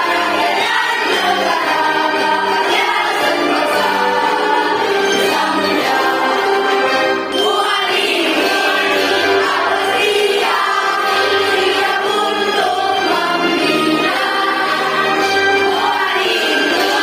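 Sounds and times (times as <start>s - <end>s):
choir singing in unison: 0.0s - 17.0s
instrumental accompaniment: 0.0s - 17.0s.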